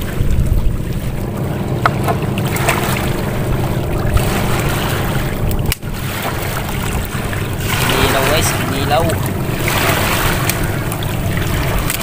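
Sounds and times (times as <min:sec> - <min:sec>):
sea: 0:00.0 - 0:12.0
wind: 0:00.0 - 0:12.0.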